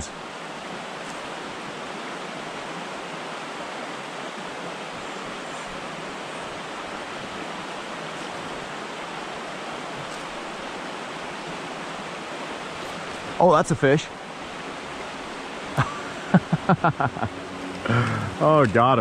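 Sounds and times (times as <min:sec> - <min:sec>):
creek water rushing over stones: 0:00.0 - 0:19.0.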